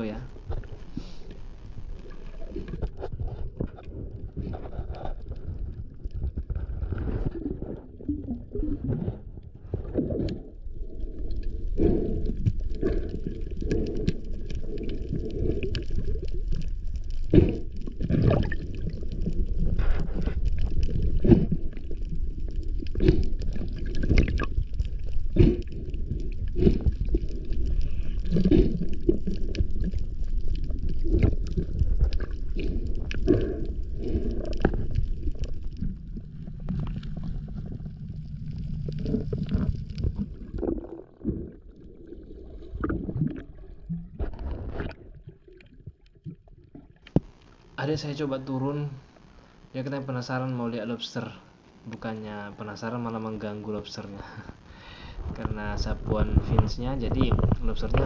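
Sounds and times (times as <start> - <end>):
underwater low rumble: 0.0 - 49.6, 50.7 - 58.0.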